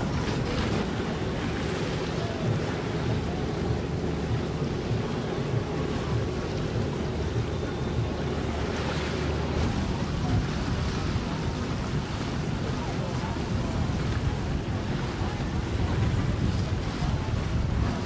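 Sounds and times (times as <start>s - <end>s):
outboard motors running: 0.0s - 18.0s
wake water rushing: 0.0s - 18.0s
wind noise on microphone: 0.0s - 18.0s.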